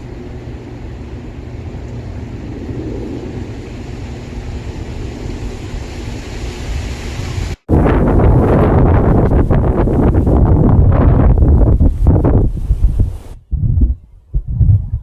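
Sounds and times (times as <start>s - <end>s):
strong wind through trees: 0.0s - 15.0s
wind rumbling on microphone: 0.0s - 15.0s.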